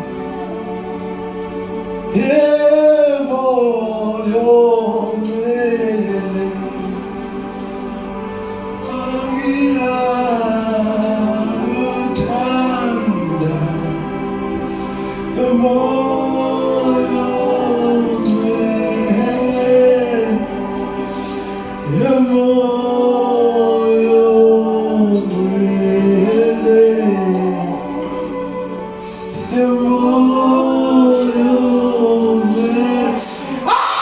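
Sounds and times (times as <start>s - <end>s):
slow gospel chorus singing: 0.0s - 34.0s.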